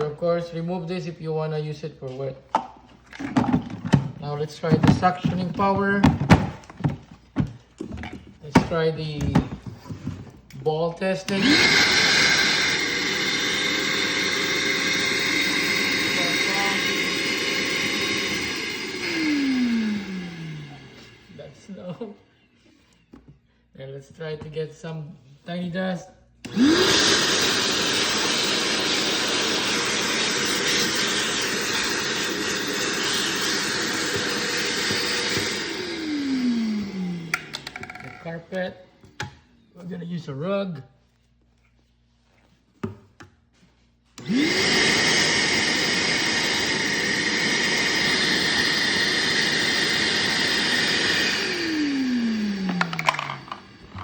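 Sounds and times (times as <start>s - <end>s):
shop vacuum running: 0.0s - 22.1s, 26.4s - 40.0s, 44.1s - 54.0s.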